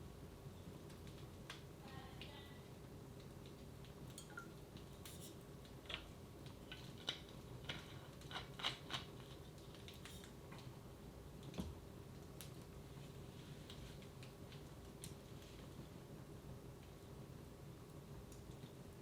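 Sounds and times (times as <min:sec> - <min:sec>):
faint steady hum: 0:00.0 - 0:19.0
wood fire crackling: 0:00.0 - 0:19.0.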